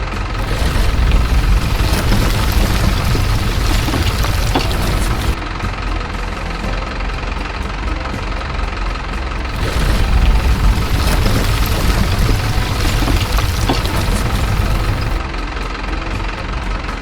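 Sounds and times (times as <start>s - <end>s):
model vehicle idling rumble: 0.0s - 16.9s.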